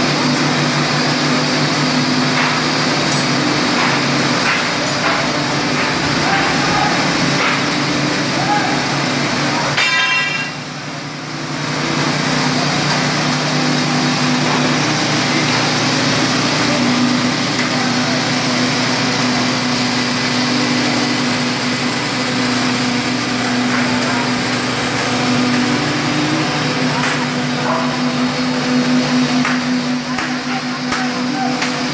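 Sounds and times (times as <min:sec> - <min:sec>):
petrol engine humming: 0:00.0 - 0:31.9.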